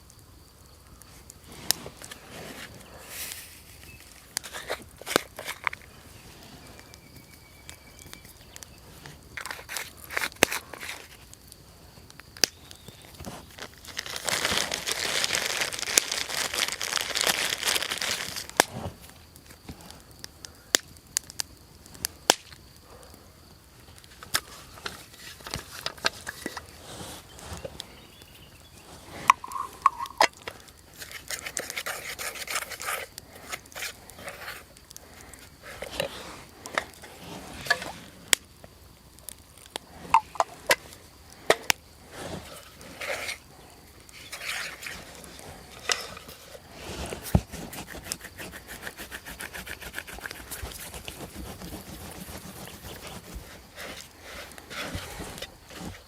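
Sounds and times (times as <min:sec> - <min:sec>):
crinkling rustle: 0:01.0 - 0:11.5, 0:12.1 - 0:20.0, 0:23.8 - 0:38.4, 0:39.1 - 0:48.7, 0:49.6 - 0:56.0.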